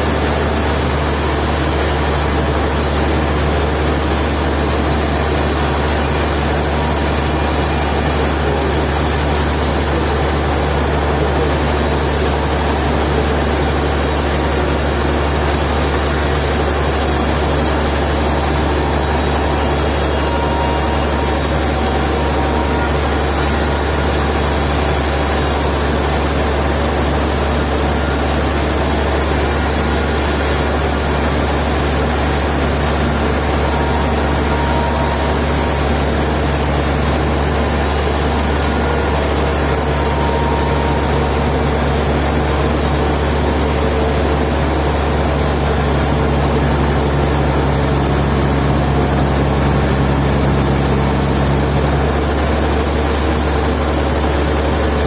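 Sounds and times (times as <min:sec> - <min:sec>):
sawmill machinery engine hum: 0:00.0 - 0:55.0.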